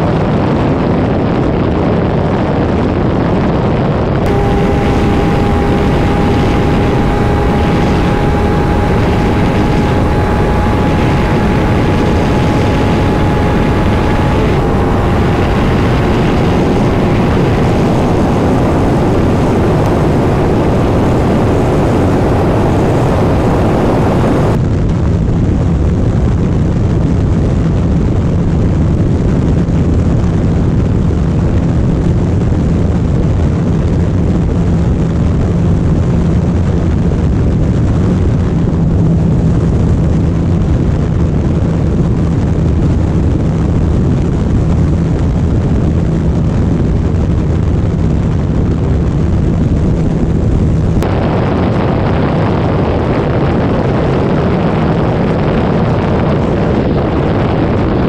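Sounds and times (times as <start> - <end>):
wind noise: 0.0 - 58.0
motorcycle engine drone: 3.9 - 58.0.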